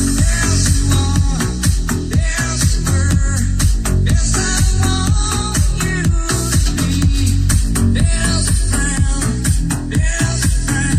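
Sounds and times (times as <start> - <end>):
music with heavy bass beat: 0.0 - 10.9.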